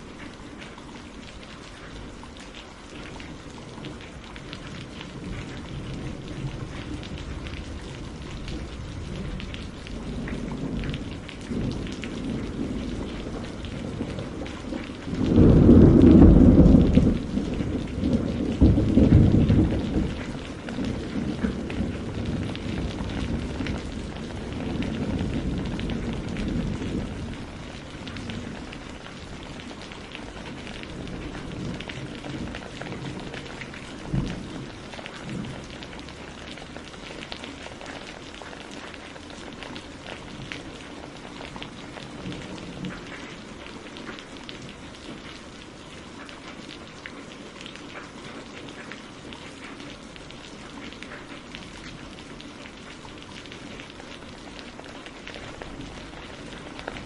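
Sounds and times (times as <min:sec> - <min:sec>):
rain falling: 0:00.0 - 0:57.0
low rumble of thunder: 0:03.0 - 0:46.9, 0:47.6 - 0:57.0.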